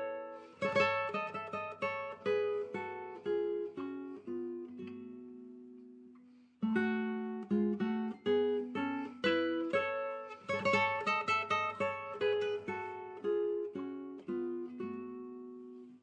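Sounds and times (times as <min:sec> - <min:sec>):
acoustic guitar plucking melody: 0:00.0 - 0:16.0.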